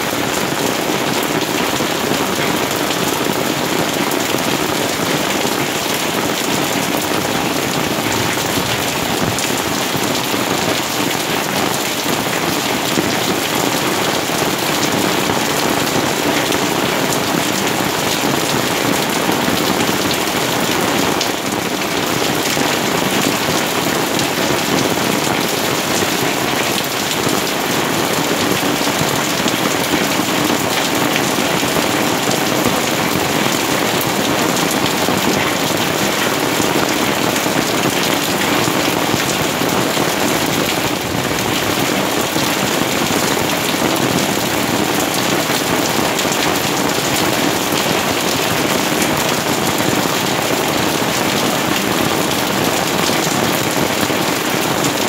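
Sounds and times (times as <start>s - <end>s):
rain falling on plants and stone: 0.0s - 55.0s.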